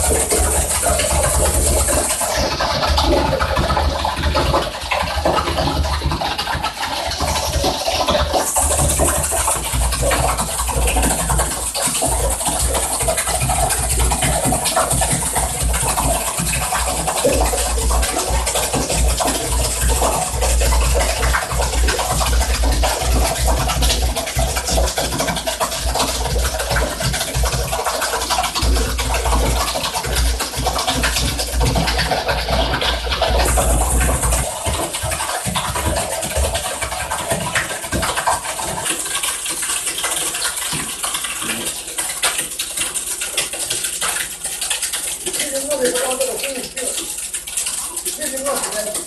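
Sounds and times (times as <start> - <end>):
wet concrete pouring and scraping: 0.0 - 49.0.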